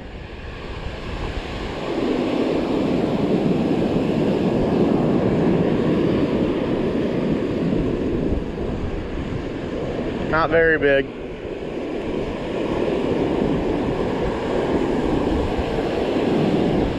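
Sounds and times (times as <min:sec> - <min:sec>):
wind buffeting microphone: 0:00.0 - 0:16.9
surf washing onto beach: 0:00.1 - 0:16.9.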